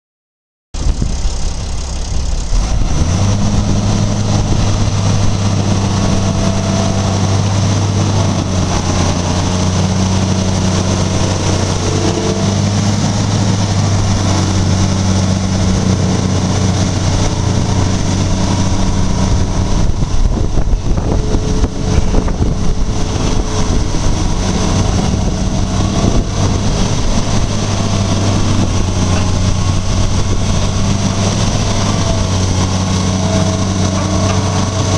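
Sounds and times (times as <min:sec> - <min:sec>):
excavator diesel engine running: 0:00.8 - 0:34.9.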